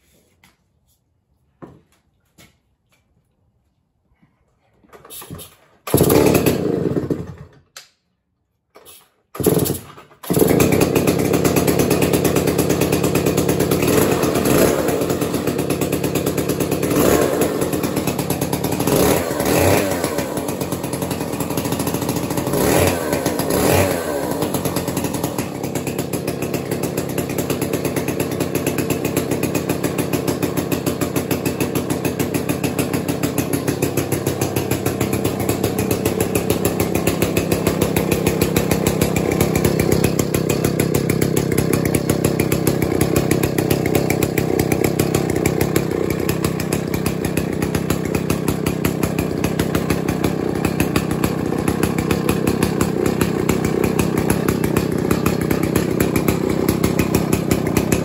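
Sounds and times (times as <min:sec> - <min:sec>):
chainsaw engine running: 0:05.2 - 0:07.6, 0:09.4 - 0:58.0.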